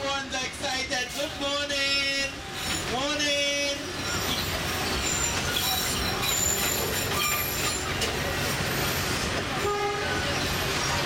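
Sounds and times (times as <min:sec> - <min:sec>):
train cars rumbling on track: 0:00.0 - 0:11.0.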